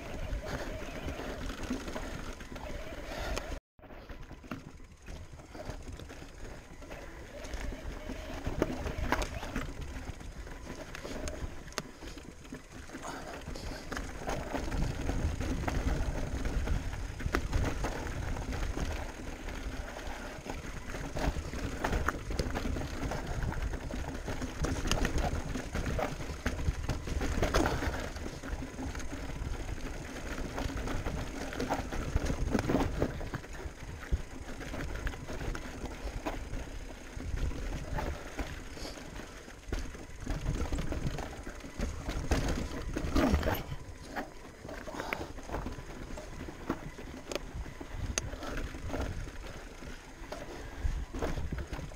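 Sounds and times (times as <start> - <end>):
bike clicks and rattles: 0.0 - 51.9.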